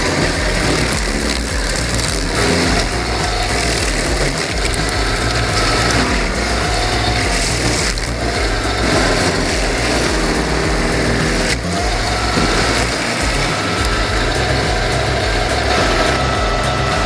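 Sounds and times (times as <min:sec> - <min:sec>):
stump grinder engine running: 0:00.0 - 0:17.0.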